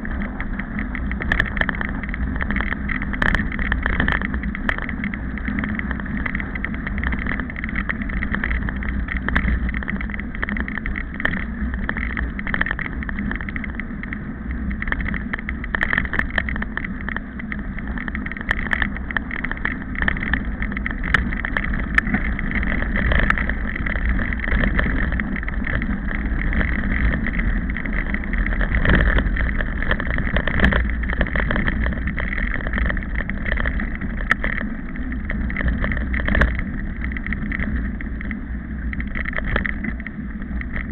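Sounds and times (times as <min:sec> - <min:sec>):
microphone handling noise: 0:00.0 - 0:40.9
wind rumble on microphone: 0:00.0 - 0:40.9.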